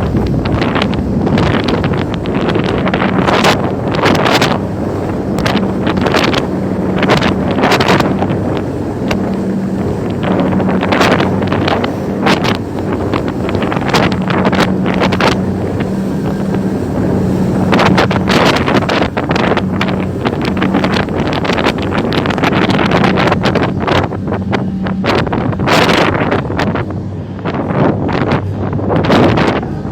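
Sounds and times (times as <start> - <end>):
boat engine droning: 0.0 - 29.9
wind buffeting microphone: 0.0 - 29.9.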